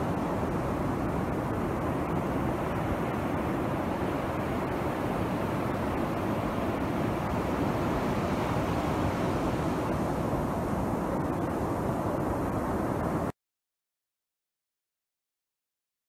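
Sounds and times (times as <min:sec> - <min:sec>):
surf breaking on a beach: 0:00.0 - 0:13.3
wind on the microphone: 0:00.0 - 0:13.3.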